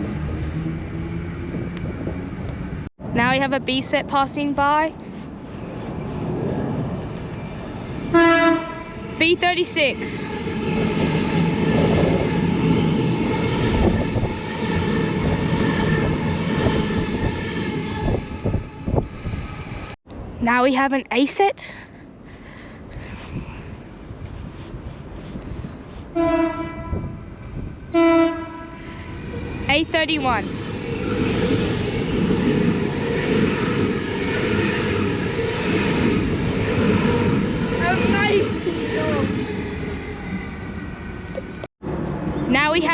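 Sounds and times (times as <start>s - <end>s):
train passing rumble: 0.0s - 42.9s.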